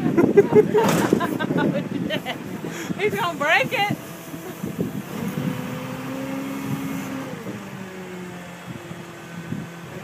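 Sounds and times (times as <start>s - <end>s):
tractor motor running: 0.2s - 10.0s.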